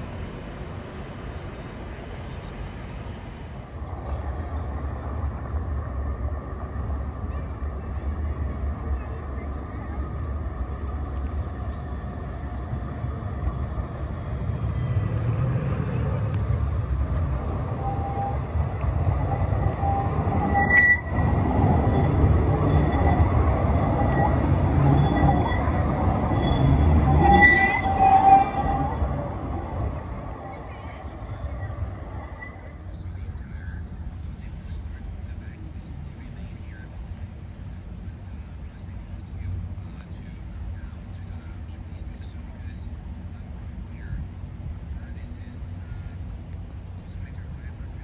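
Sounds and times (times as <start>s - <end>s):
city street noise: 0.0s - 48.0s
low hum: 0.0s - 48.0s
train passing: 0.0s - 48.0s
tram wheels rumbling on rails: 0.0s - 48.0s.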